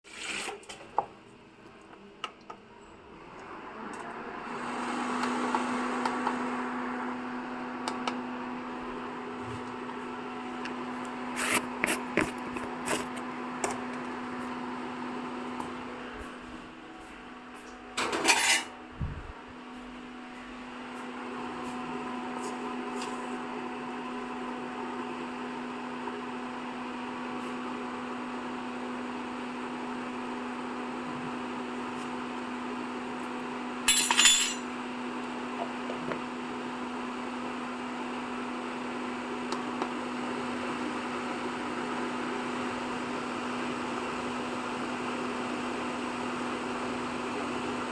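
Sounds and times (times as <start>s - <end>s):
appliance electrical hum: 0.1s - 47.9s.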